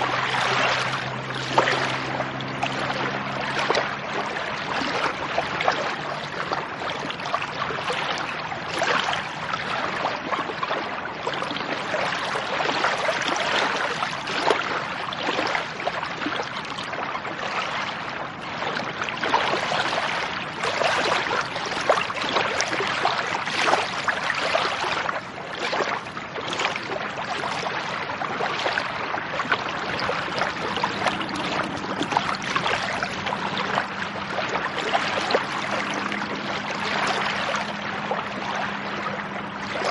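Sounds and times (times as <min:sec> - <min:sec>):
lake water splashing at shore: 0:00.0 - 0:39.9.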